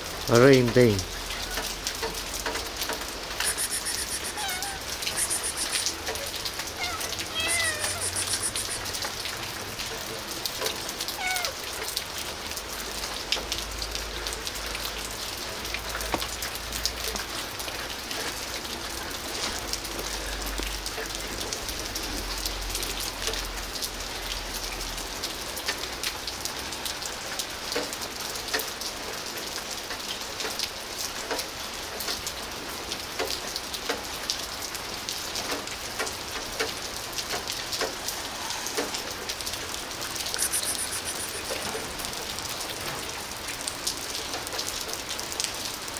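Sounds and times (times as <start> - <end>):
rain falling on pavement: 0.0 - 45.9.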